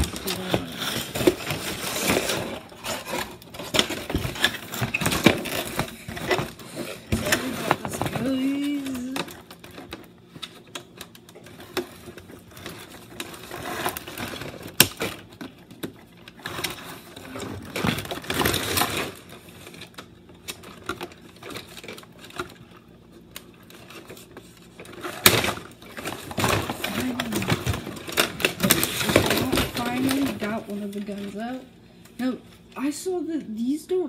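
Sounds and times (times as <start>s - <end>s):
cardboard packaging rustling: 0.0s - 31.7s.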